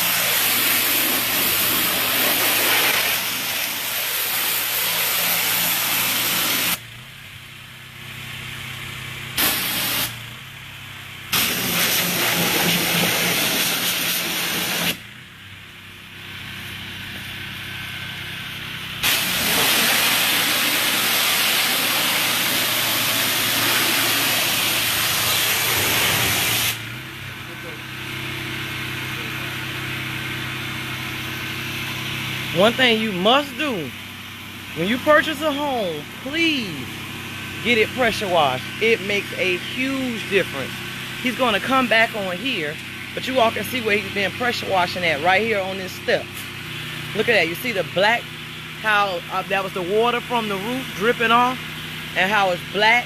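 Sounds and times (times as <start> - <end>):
pressure washer spray hissing: 0.0 - 7.0, 9.3 - 10.4, 11.3 - 15.1, 16.1 - 53.0
pressure washer engine running: 0.0 - 53.0.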